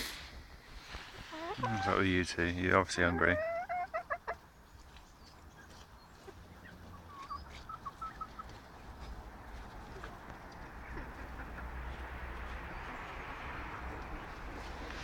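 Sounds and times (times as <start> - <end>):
chickens calling softly: 0.9 - 15.0.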